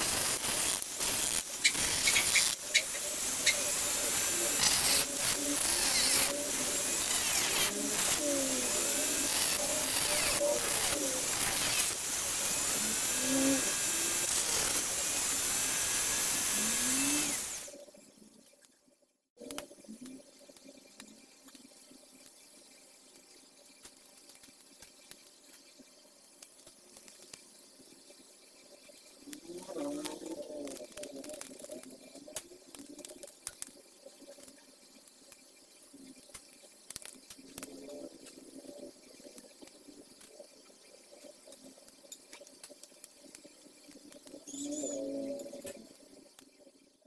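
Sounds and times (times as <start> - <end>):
rotary tool cutting disc whirring: 0.0 - 18.4, 23.9 - 46.7.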